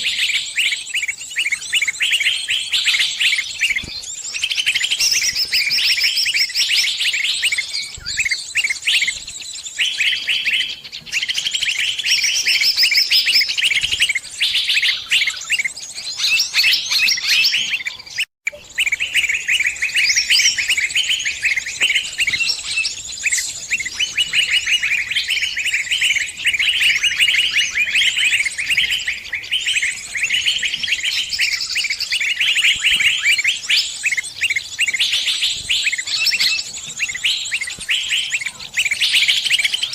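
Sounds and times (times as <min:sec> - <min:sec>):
birds chirping in high trills: 0:00.0 - 0:39.9.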